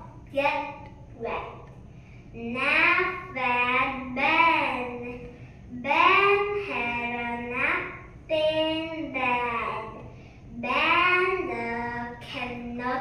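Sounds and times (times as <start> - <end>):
girl reading aloud in sing-song chant: 0.0 - 13.0.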